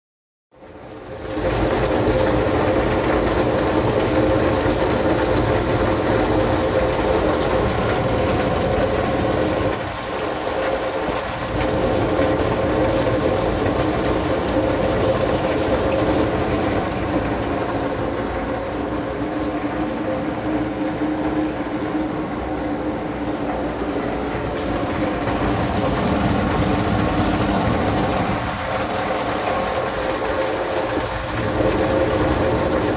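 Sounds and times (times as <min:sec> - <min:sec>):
heavy rain on glass: 0:00.6 - 0:32.9
steady hum: 0:01.0 - 0:32.9.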